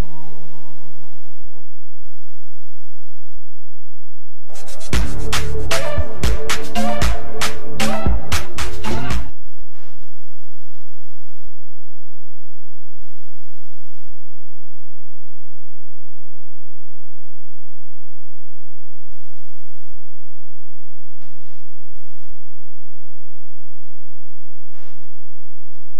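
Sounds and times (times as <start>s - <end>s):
mains hum: 0.0s - 4.5s, 9.3s - 25.9s.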